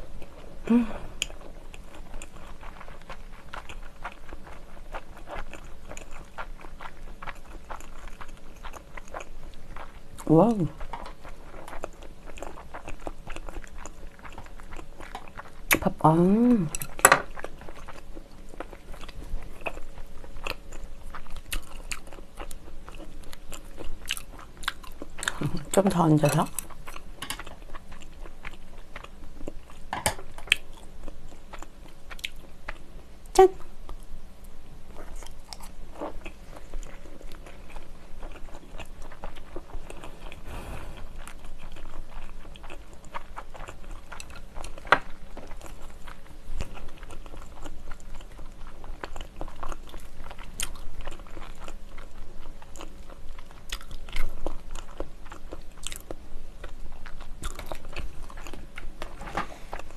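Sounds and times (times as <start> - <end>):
wet chewing sounds: 0.0 - 32.9, 34.9 - 59.9.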